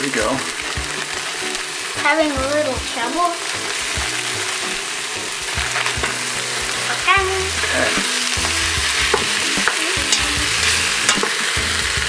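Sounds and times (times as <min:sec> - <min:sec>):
meat sizzling in pot: 0:00.0 - 0:12.0.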